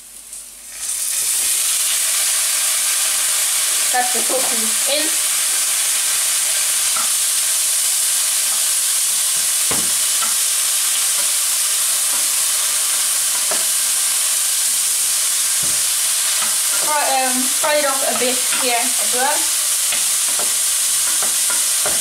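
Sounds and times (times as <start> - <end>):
tofu sizzling in oil: 0.0 - 22.0.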